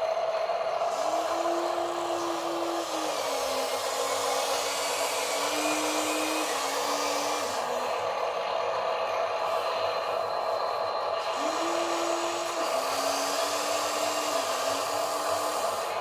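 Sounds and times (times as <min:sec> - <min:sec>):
toy truck motor whirring: 0:00.0 - 0:08.4, 0:11.1 - 0:16.0.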